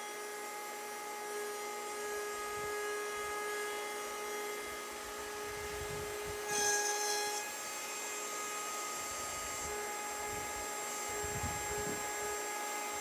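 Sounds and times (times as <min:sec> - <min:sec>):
router bit cutting wood: 0:00.0 - 0:13.0
router whining: 0:00.0 - 0:13.0.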